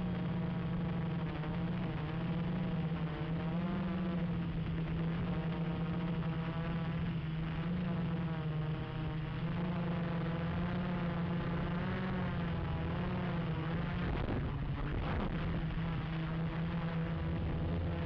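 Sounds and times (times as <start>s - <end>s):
multicopter motors and propellers buzzing: 0.0s - 18.0s.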